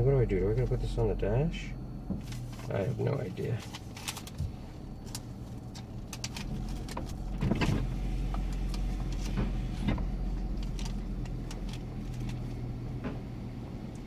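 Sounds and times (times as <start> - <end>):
minivan engine idling: 0.0 - 14.0.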